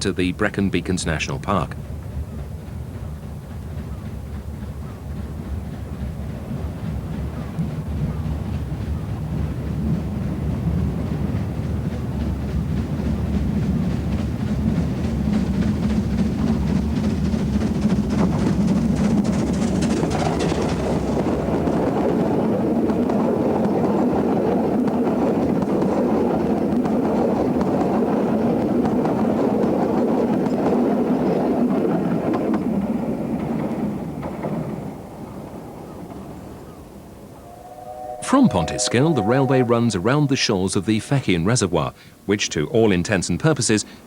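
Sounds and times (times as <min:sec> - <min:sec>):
steam train running: 0:00.0 - 0:44.0.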